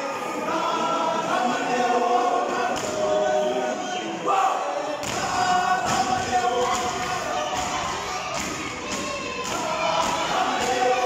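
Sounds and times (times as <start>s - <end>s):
male choir singing a cappella: 0.0s - 11.0s.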